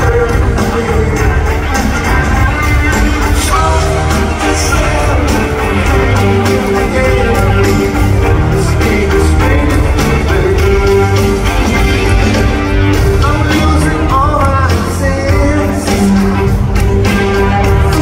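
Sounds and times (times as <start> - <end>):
bass guitar: 0.0 - 18.0
drums: 0.0 - 18.0
electric guitars: 0.0 - 18.0
keyboards: 0.0 - 18.0
person singing lead vocal: 0.0 - 18.0.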